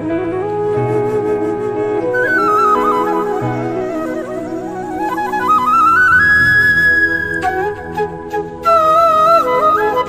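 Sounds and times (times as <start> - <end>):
flute melody: 0.0 - 10.0
soft accompaniment: 0.0 - 10.0.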